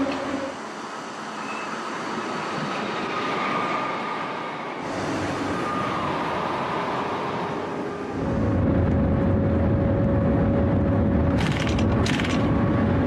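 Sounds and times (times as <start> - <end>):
train rushing past: 0.0 - 11.4
low rumble inside train: 0.0 - 13.0.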